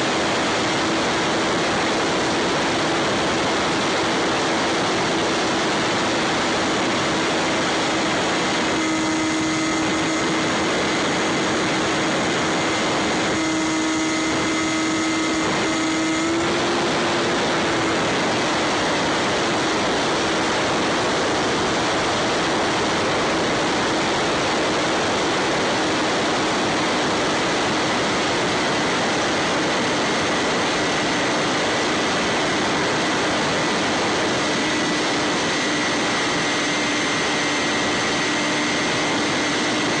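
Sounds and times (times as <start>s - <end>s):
electric motor and propeller humming: 0.0s - 40.0s.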